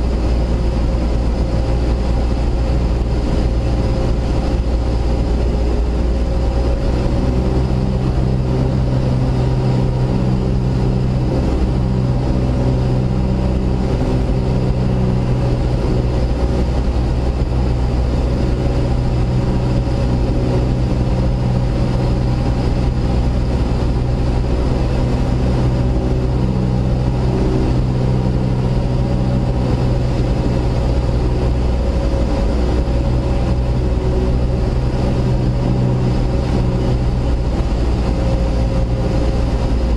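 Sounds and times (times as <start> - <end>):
small plane engine and propeller: 0.0 - 39.9.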